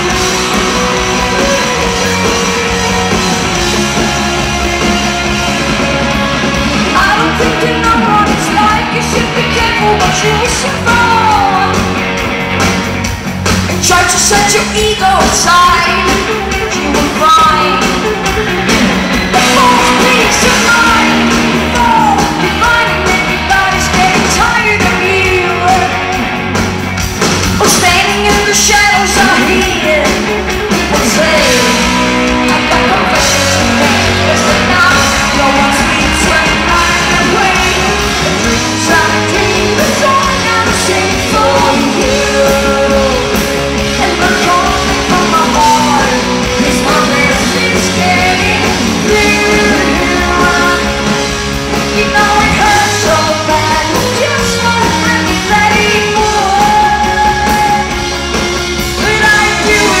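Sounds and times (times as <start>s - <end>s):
drums: 0.0s - 60.0s
electric guitars: 0.0s - 60.0s
woman singing: 6.8s - 12.0s, 13.8s - 18.5s, 19.4s - 26.3s, 27.6s - 58.2s, 58.9s - 60.0s.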